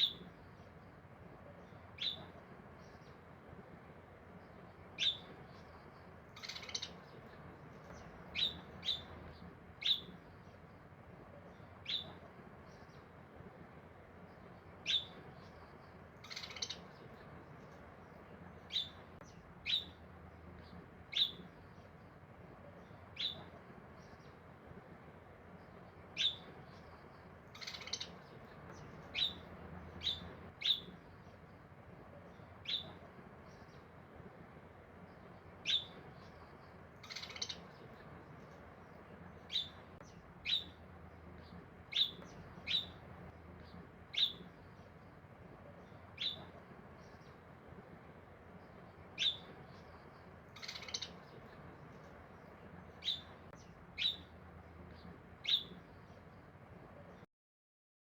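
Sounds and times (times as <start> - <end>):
bird chirping: 0.0 - 0.7, 1.6 - 3.2, 4.5 - 10.6, 11.4 - 13.1, 14.4 - 22.1, 22.8 - 24.4, 25.6 - 31.5, 32.2 - 33.9, 35.1 - 47.5, 48.5 - 56.3.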